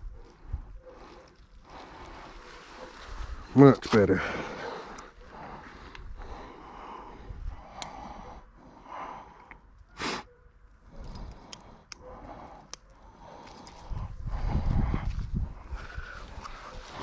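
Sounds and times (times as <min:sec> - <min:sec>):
person breathing heavily: 0:00.4 - 0:02.5, 0:04.1 - 0:17.0.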